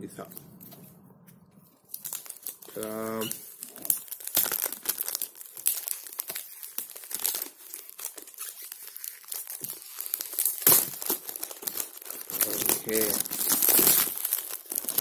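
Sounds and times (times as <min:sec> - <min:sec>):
plastic wrap crinkling and tearing: 0:01.6 - 0:15.0.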